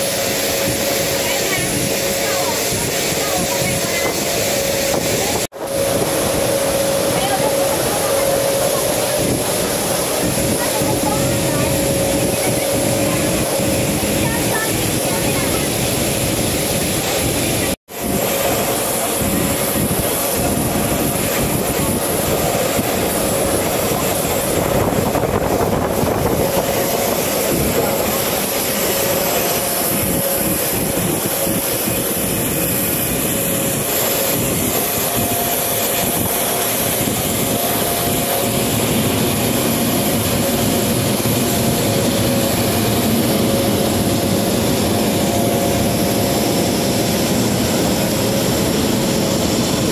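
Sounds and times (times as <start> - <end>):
jet turbine rush and whine: 0.0 - 49.9.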